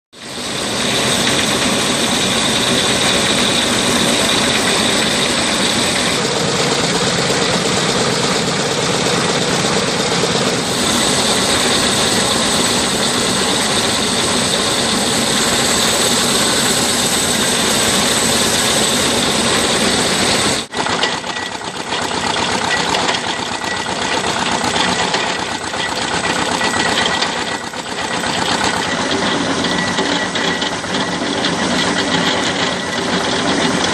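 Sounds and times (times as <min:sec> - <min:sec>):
loud machinery running: 0:00.1 - 0:33.9
rough uneven machine noise: 0:00.2 - 0:33.9.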